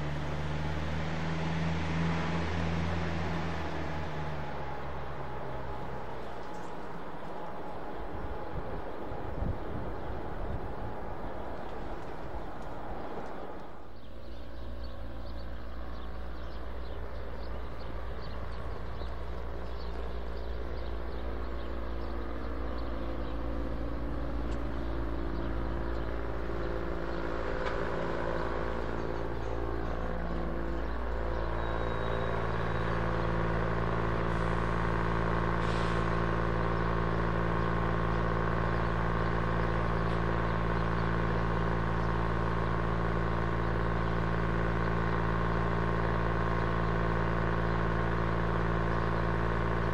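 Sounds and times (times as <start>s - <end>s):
vehicle machinery humming: 0.0s - 49.9s.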